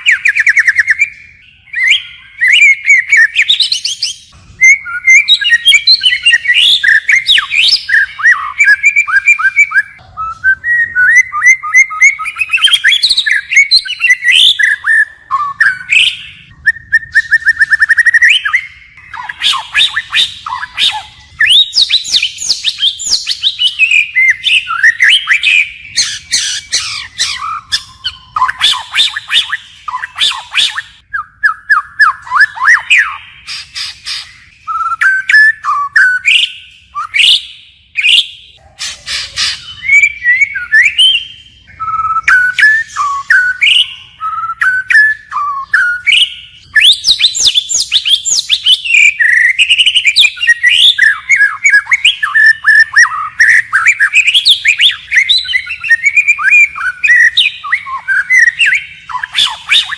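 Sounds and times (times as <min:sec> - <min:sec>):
songbird singing whistles and trills: 0:00.0 - 0:59.9.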